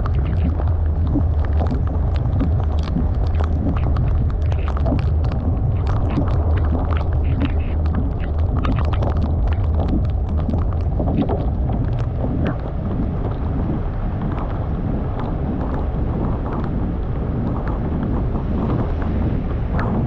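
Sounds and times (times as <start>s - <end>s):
rain: 0.0s - 20.0s
road and wind rumble: 0.0s - 20.0s.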